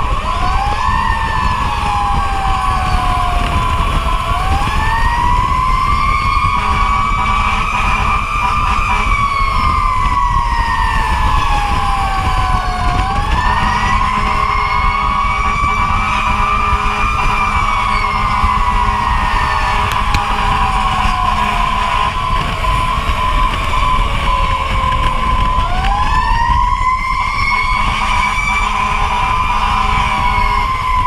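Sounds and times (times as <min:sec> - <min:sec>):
fire truck siren wailing: 0:00.0 - 0:31.0
moving truck rumble: 0:00.0 - 0:31.0.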